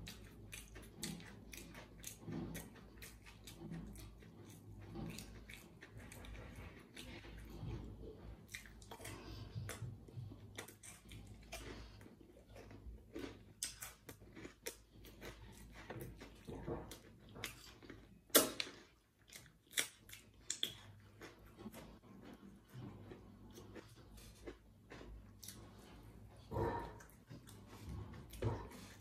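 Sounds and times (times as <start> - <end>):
wet chewing: 0.0 - 29.0.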